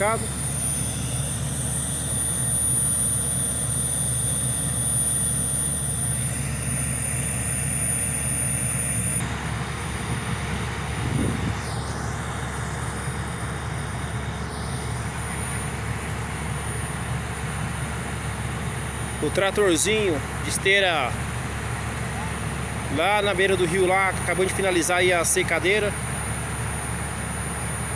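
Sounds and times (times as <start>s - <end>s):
heavy machinery diesel engines: 0.0s - 27.9s.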